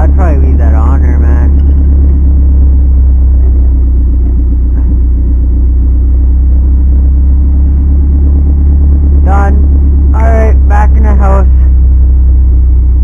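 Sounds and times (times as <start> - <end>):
car engine idling exhaust: 0.0 - 13.0.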